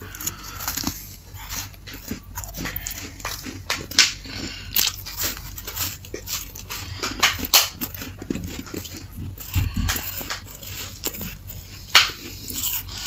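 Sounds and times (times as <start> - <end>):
frost being chewed with crunches: 0.0 - 13.0.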